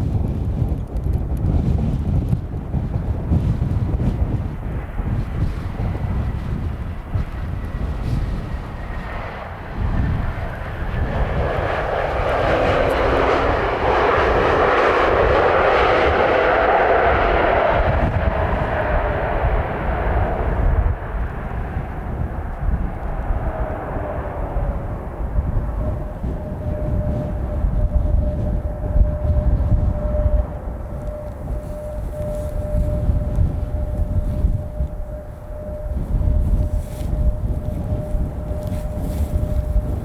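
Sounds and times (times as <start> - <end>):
wind rumbling on microphone: 0.0 - 40.0
jet engines roaring: 3.0 - 40.0.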